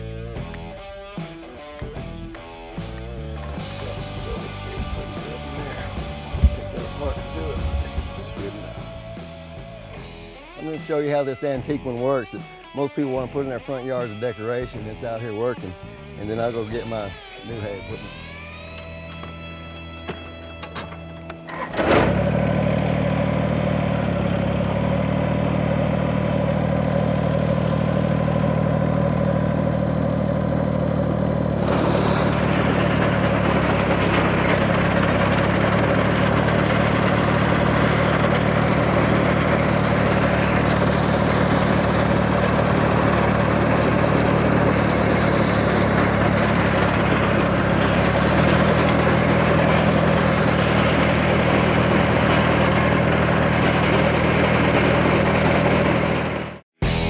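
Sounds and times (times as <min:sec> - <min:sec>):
tractor engine running: 0:00.0 - 0:10.1, 0:18.6 - 0:57.0.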